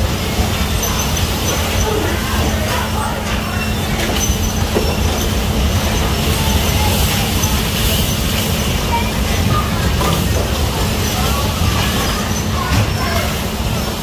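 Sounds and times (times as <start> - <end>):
bumper cars rolling rumble: 0.0 - 14.0.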